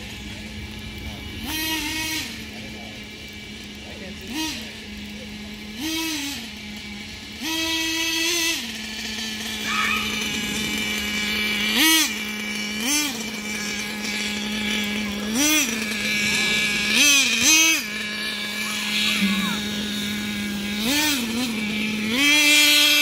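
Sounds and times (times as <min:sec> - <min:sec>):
engine revving: 0:00.0 - 0:23.0
small nitro engine idling: 0:00.0 - 0:23.0.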